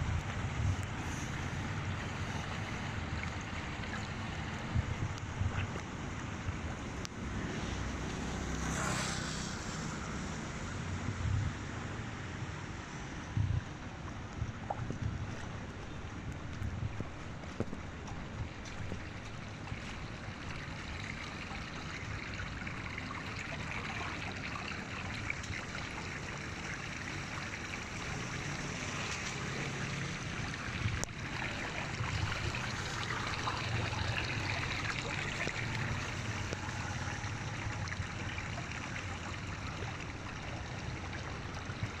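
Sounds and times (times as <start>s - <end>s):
water draining into culvert: 0.0s - 10.6s, 18.0s - 42.0s.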